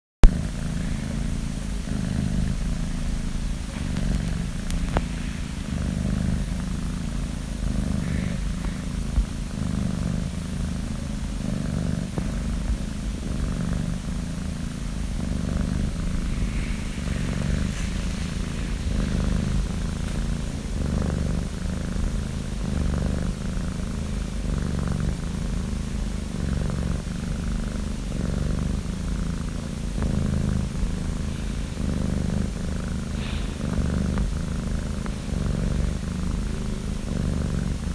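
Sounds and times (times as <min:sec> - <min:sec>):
kitten snoring: 0:00.2 - 0:37.9.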